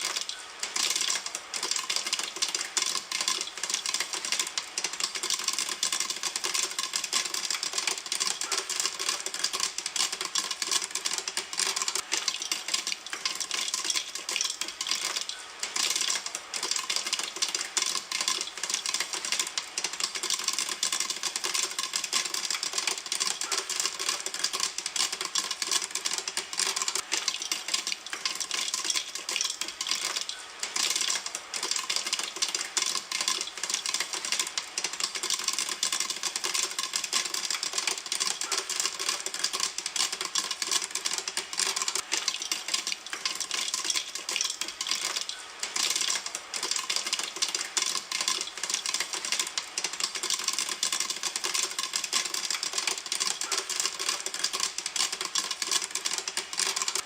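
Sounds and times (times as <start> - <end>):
popcorn popping in a pan: 0.0 - 57.0.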